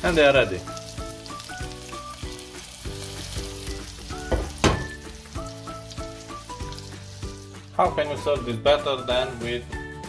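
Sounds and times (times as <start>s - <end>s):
meat sizzling in a pan: 0.0s - 9.6s
background music: 0.0s - 10.0s.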